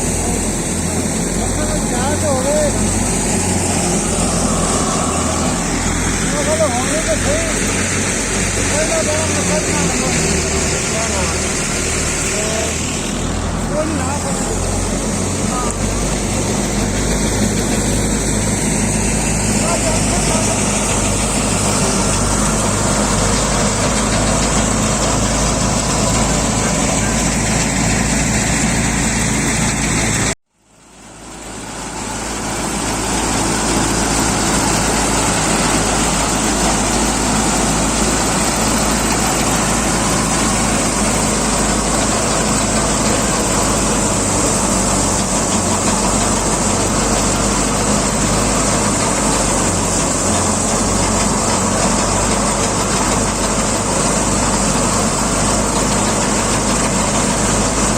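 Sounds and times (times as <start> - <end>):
thresher mechanical din: 0.0 - 30.3, 31.3 - 57.9
tractor engine low beat: 0.0 - 57.9.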